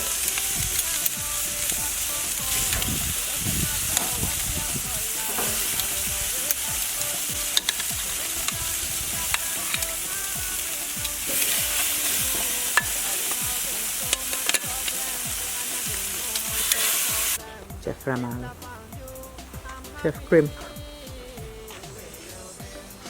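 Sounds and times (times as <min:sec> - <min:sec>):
meat sizzling on a grill: 0:00.0 - 0:23.0.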